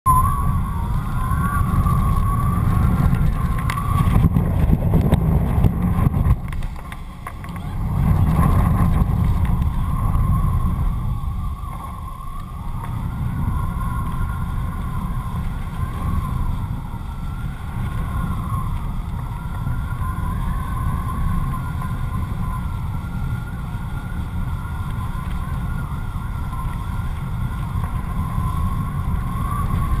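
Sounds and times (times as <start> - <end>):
thin wavering whistle: 0.1 - 6.1, 7.9 - 30.0
wind buffeting a camera: 0.1 - 30.0.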